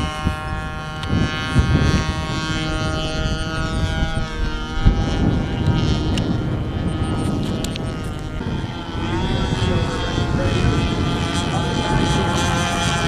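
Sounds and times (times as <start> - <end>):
model airplane engine buzzing: 0.0 - 13.0
wind rumbling on microphone: 0.0 - 13.0.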